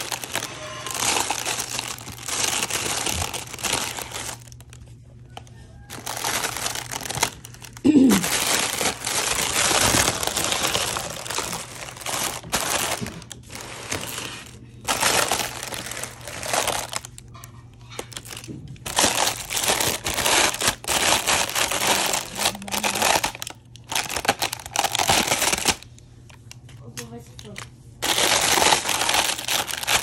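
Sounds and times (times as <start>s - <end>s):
packaging crinkling and rustling: 0.0s - 30.0s.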